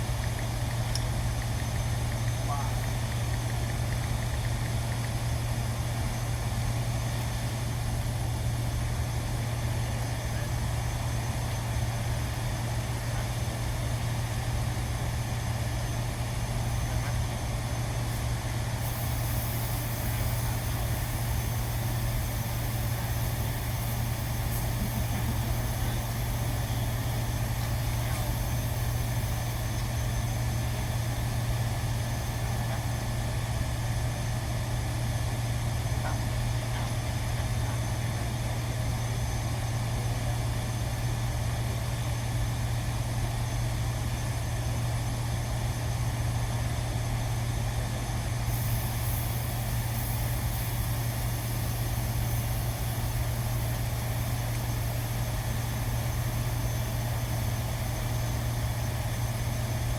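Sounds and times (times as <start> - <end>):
machinery humming: 0.0 - 59.9.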